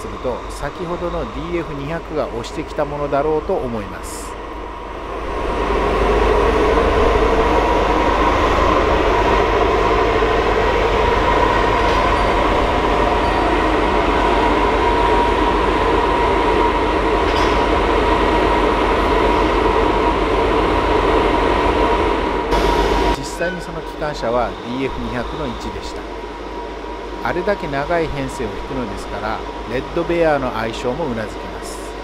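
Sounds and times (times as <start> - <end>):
constant whine: 0.0 - 32.0
freight train rumbling: 0.0 - 32.0.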